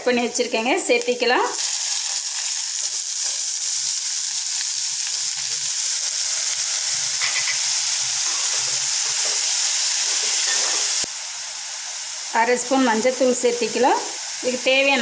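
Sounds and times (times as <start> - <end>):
oil sizzling in a pan: 0.0 - 15.0.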